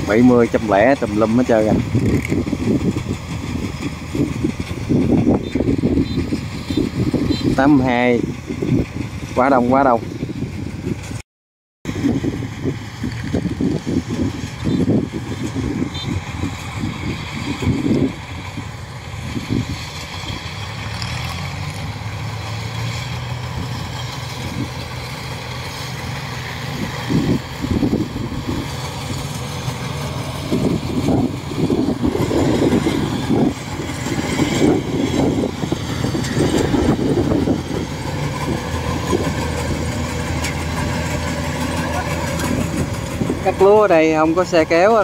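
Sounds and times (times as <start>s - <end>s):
combine harvester diesel engine: 0.0s - 11.2s, 11.9s - 45.0s.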